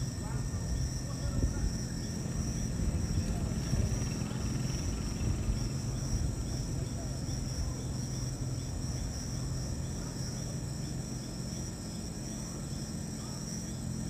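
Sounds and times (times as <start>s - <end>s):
insects chirping: 0.0s - 14.0s
low hum and rumble: 0.0s - 14.0s.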